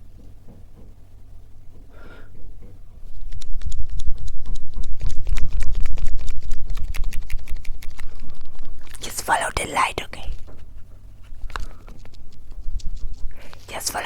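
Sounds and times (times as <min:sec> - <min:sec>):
rapid tapping and scratching: 0:00.0 - 0:09.0, 0:10.2 - 0:14.0
soft rubbing on microphones: 0:02.6 - 0:14.0.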